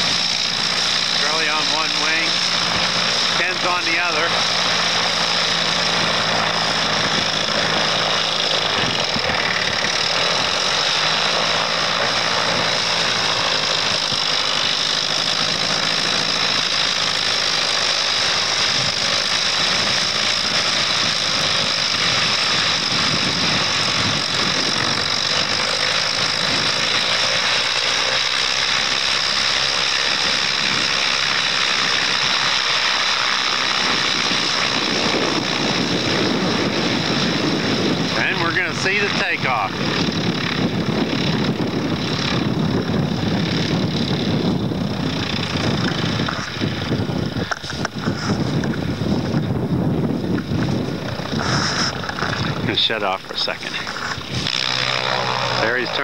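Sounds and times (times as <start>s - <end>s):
light plane engine running: 0.0s - 56.0s.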